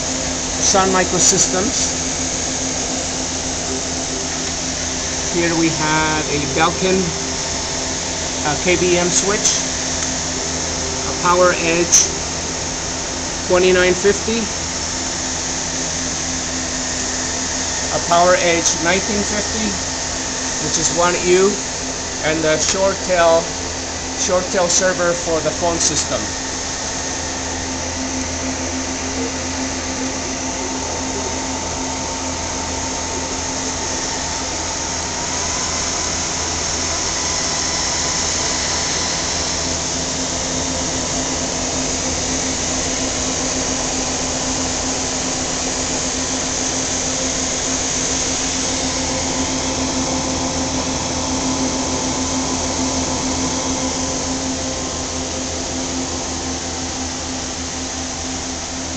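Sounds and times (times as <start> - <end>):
faint high whine: 0.0 - 58.9
server cooling fans whirring: 0.0 - 58.9.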